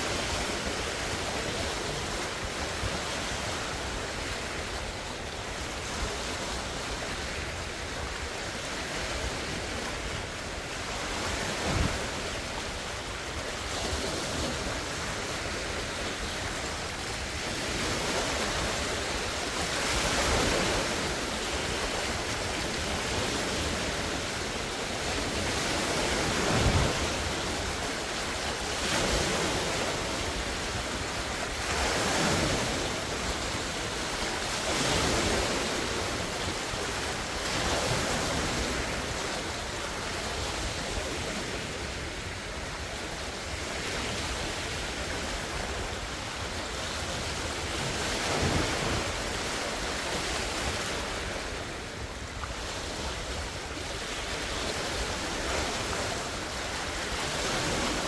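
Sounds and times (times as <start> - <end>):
wind buffeting microphone: 0.0 - 52.2
waves breaking on shore: 0.0 - 58.0.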